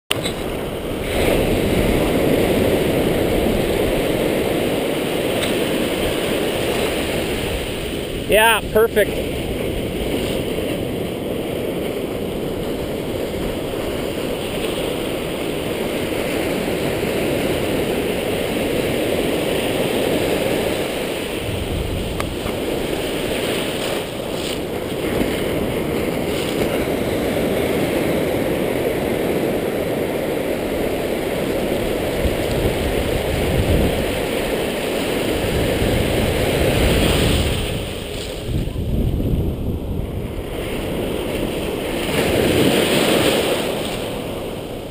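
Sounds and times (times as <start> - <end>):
ocean surf washing: 0.1 - 44.9
wind buffeting microphone: 0.1 - 44.9.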